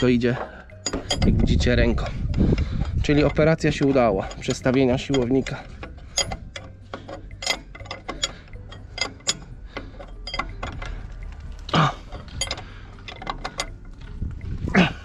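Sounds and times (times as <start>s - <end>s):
metal clicks and clinks: 0.0s - 14.7s.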